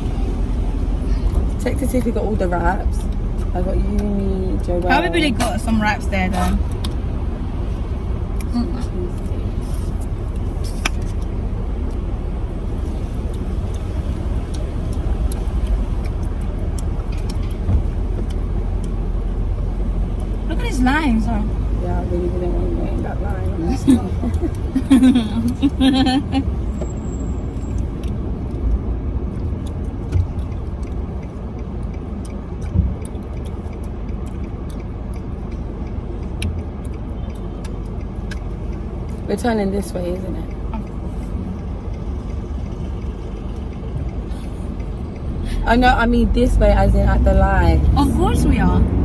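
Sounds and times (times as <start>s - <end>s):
car interior engine and road rumble: 0.0s - 49.0s.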